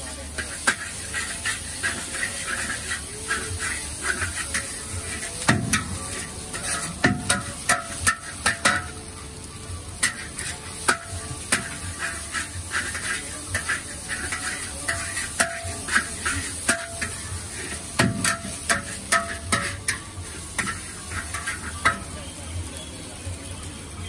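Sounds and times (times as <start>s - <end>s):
oil sizzling: 0.0s - 24.0s
metal ladle clanking on wok: 0.4s - 9.0s, 10.0s - 22.1s.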